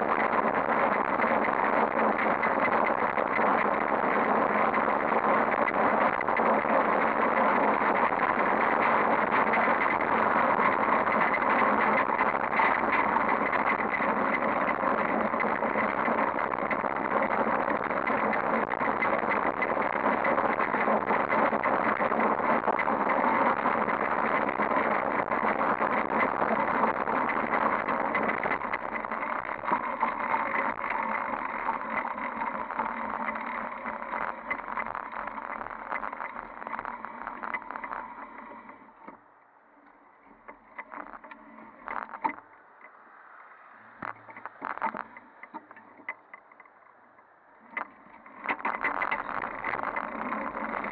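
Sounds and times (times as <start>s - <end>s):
bicycle rattling over rough asphalt: 0.0s - 39.1s, 40.4s - 42.5s, 43.9s - 47.0s, 47.6s - 50.9s
wind: 0.0s - 50.9s.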